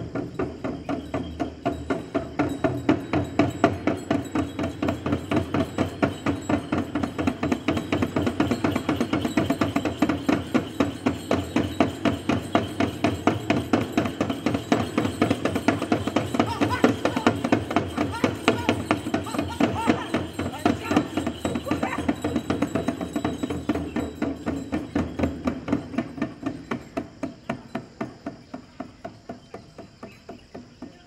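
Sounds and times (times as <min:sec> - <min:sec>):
frame drums beaten fast: 0:00.0 - 0:31.0.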